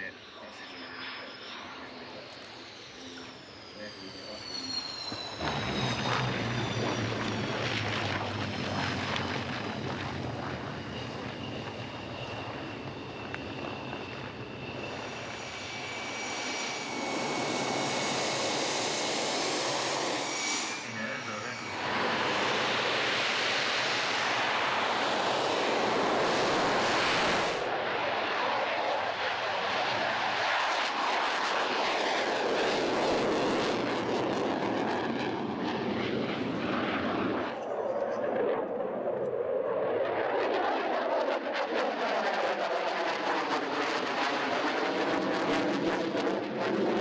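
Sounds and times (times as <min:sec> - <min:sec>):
high jet whine: 0:00.0 - 0:39.2
jet engines roaring: 0:00.0 - 0:47.0.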